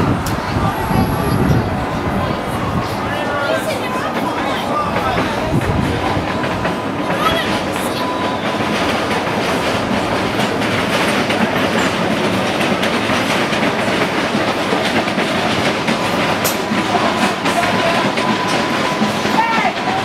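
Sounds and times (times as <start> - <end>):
train wheels on rail: 0.0 - 20.0.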